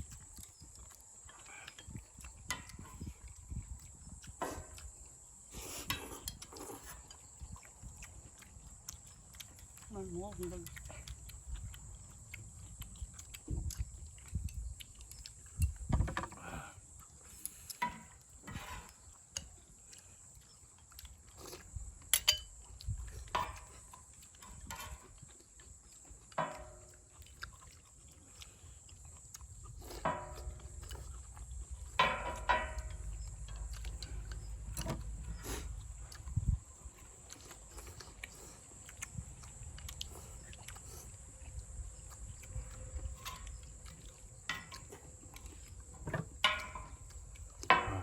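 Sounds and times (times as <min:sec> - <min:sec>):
noodles slurped and chewed: 0:00.0 - 0:48.0.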